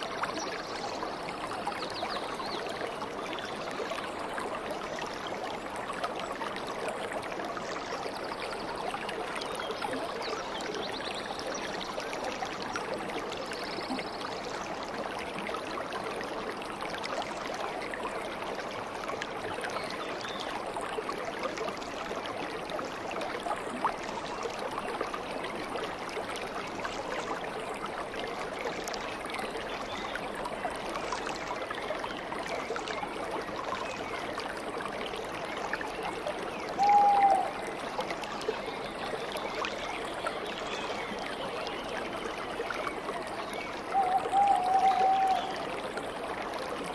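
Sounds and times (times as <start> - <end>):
stream babbling over stones: 0.0 - 46.9.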